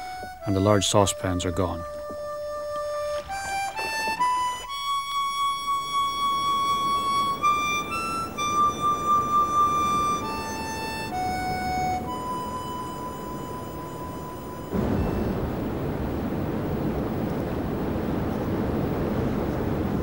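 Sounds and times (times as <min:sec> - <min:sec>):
slow wind instrument melody: 0:00.0 - 0:18.7.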